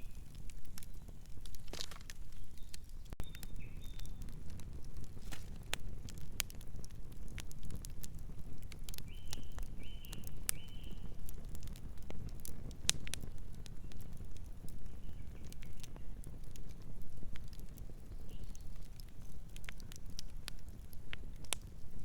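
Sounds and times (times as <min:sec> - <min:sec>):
campfire crackling: 0:00.0 - 0:22.0
low rumble of flames: 0:00.0 - 0:22.0.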